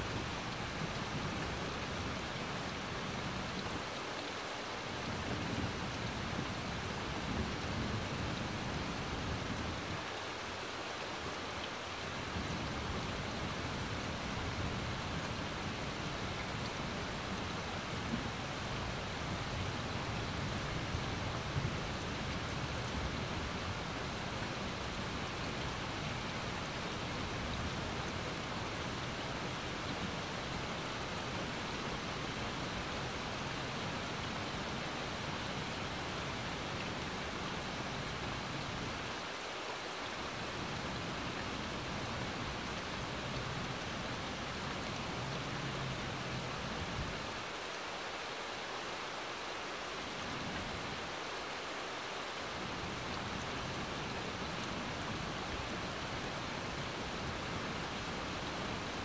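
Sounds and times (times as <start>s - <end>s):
steady rain on trees and grass: 0.0s - 59.0s.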